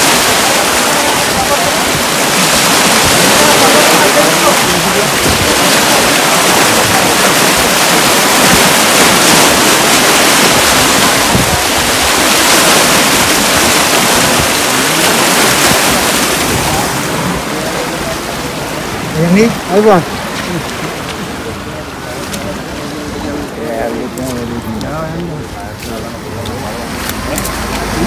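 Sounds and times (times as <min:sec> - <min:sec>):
water rushing through sluice gate: 0:00.0 - 0:28.0.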